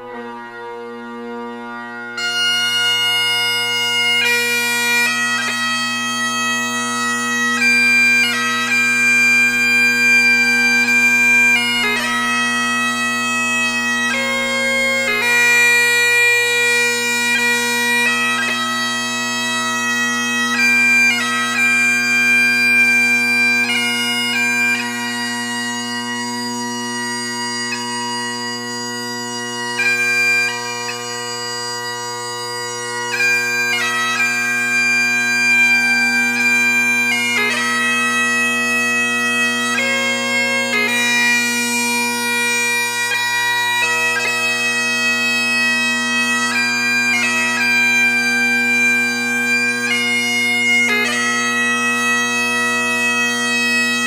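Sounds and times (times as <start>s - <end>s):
bagpipe music: 0.0s - 54.0s.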